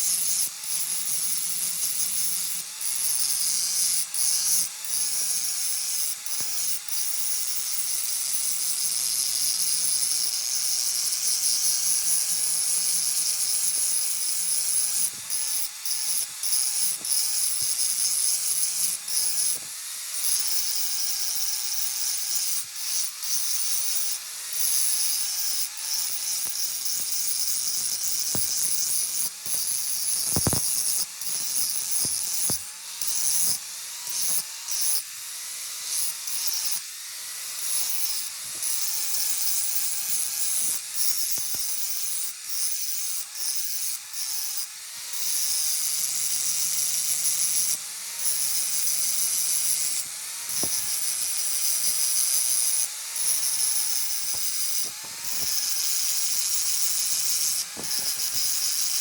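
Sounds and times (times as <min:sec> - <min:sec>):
power grinder on metal: 0:00.0 - 0:59.0.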